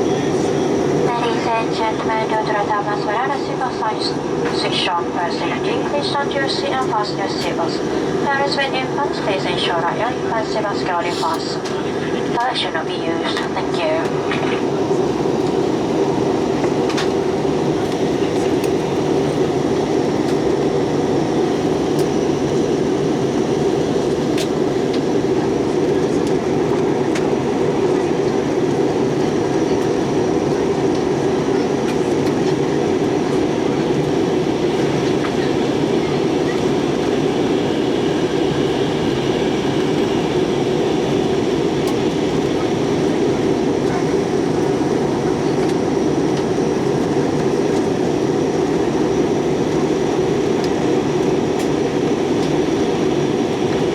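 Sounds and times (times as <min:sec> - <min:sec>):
jet cabin engine rumble: 0:00.0 - 0:53.9.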